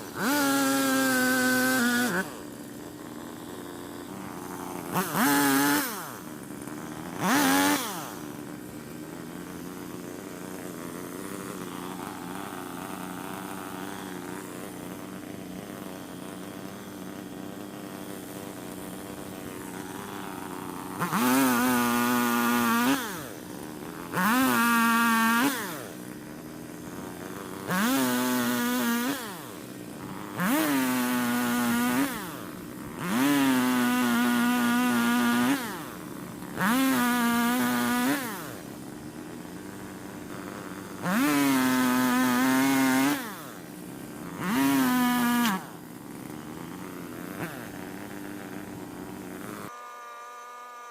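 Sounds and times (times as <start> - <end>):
chainsaw cutting logs: 0.0 - 50.9.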